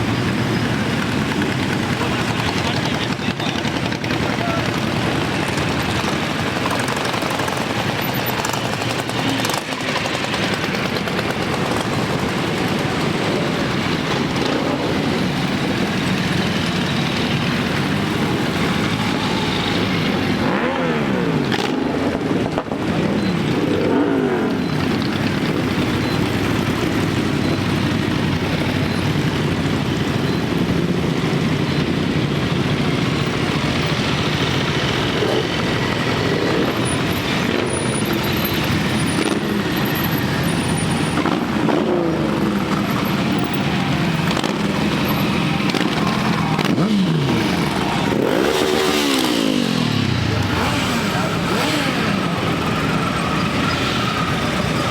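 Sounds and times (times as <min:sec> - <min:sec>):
engines revving: 0:00.0 - 0:54.9
motorcycle engines: 0:00.0 - 0:54.9.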